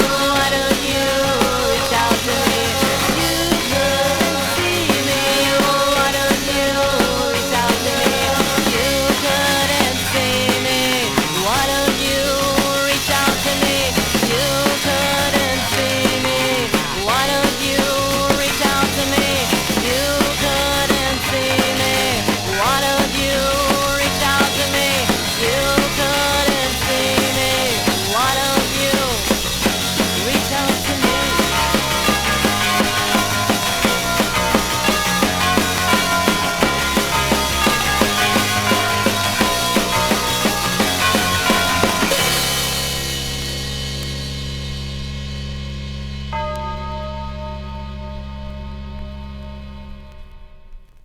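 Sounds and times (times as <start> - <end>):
punk rock band instrumental: 0.0 - 50.8.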